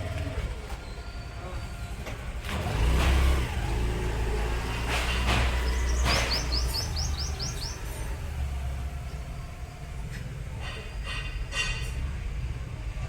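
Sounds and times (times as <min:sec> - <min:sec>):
truck diesel engine revving: 0:00.0 - 0:10.6.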